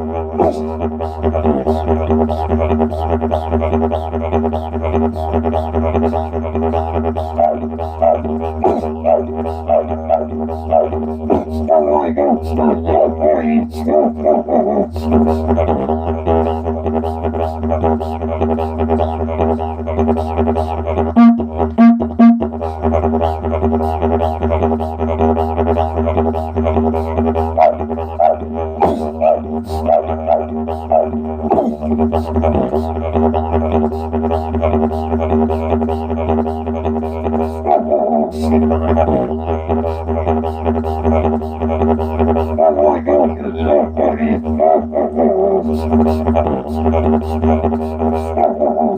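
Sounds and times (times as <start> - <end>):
didgeridoo drone: 0.0 - 48.9.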